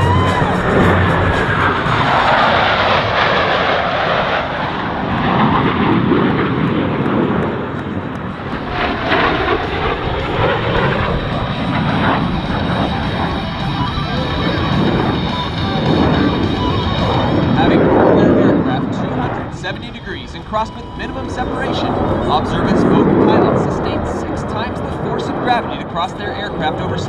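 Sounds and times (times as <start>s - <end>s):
jet roar: 0.0s - 27.0s.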